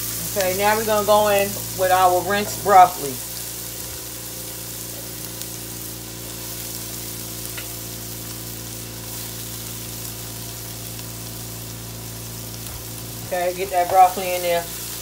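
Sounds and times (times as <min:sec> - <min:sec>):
steady low hum: 0:00.0 - 0:15.0
vegetables sizzling in a frying pan: 0:00.0 - 0:15.0.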